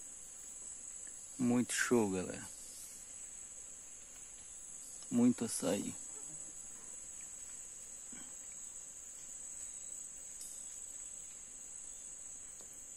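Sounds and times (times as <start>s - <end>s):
high-pitched insect chorus: 0.0s - 12.9s.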